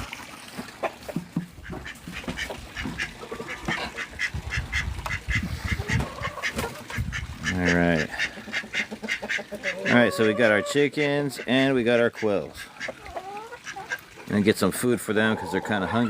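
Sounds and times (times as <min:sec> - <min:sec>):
chickens clucking: 0:00.5 - 0:16.0.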